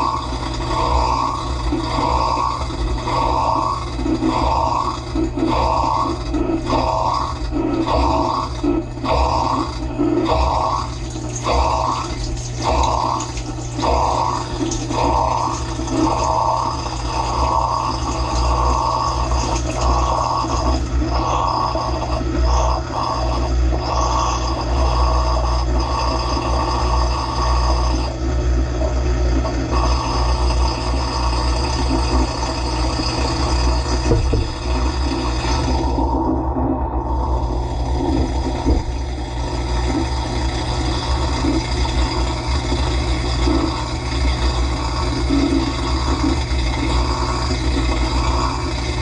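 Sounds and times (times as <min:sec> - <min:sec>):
dishwasher pump humming: 0:00.0 - 0:49.0.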